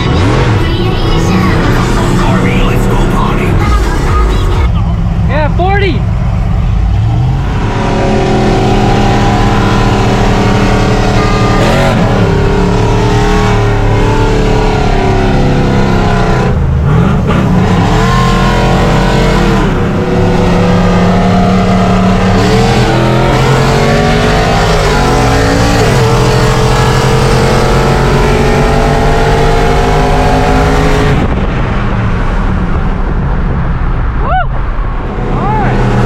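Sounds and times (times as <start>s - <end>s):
truck engine at full throttle: 0.0s - 36.0s.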